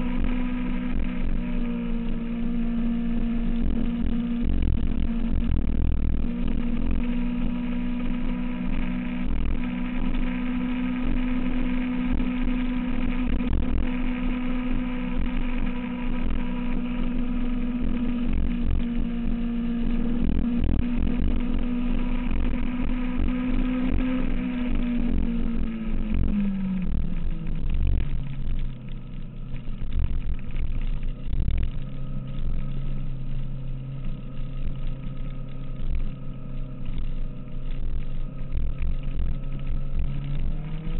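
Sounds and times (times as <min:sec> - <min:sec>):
motorcycle engine running: 0:00.0 - 0:40.9
wind rumbling on microphone: 0:00.0 - 0:40.9.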